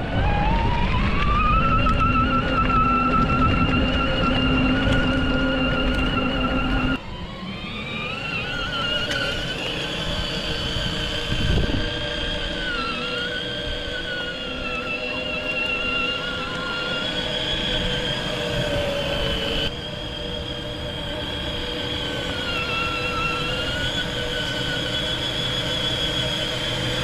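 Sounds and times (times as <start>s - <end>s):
electric toy car motor whining: 0.2s - 27.0s.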